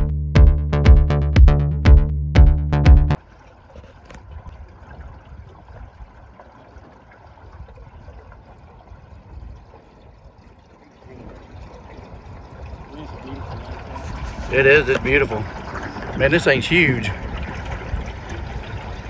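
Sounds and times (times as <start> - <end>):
water lapping against metal boat: 3.2 - 19.0.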